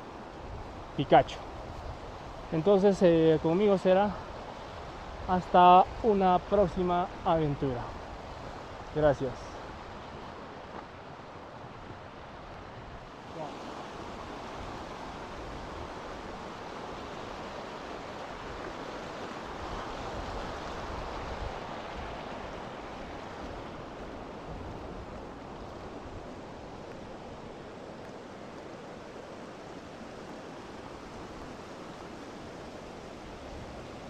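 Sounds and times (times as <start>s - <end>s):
rushing outdoor ambience: 0.0s - 34.0s.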